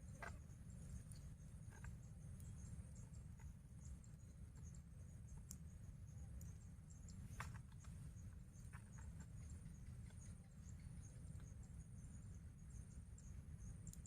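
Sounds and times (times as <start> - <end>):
small clicks and crackles: 0.0 - 11.6
insects chirping: 0.0 - 14.0.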